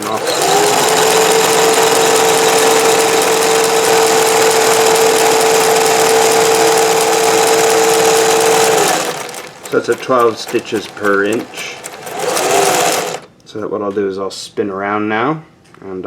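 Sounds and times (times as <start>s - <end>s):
sewing machine whirring: 0.0s - 13.3s.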